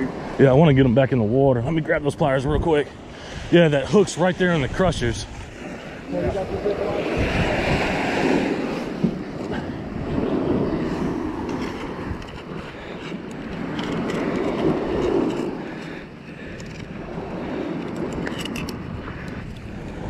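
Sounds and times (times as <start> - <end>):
surf washing on sandy beach: 0.0 - 20.0
wind rumble on microphone: 0.0 - 20.0.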